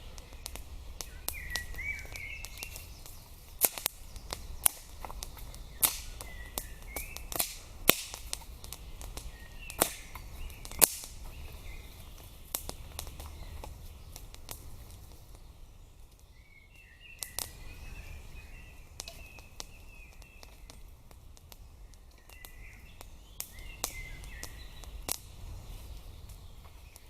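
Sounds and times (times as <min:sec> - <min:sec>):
small birds singing: 0:00.0 - 0:27.0
wood fire crackling and popping: 0:00.0 - 0:27.0.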